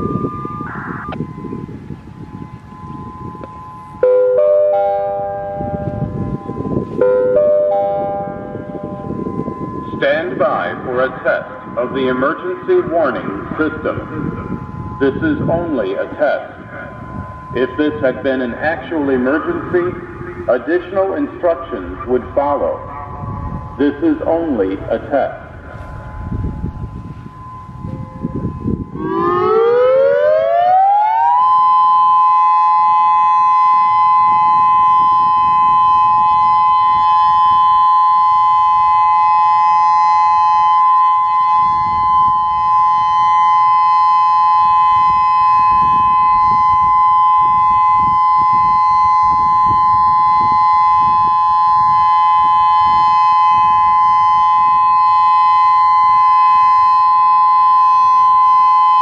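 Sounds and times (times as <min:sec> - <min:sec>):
two-tone electronic siren: 0:00.0 - 0:59.0.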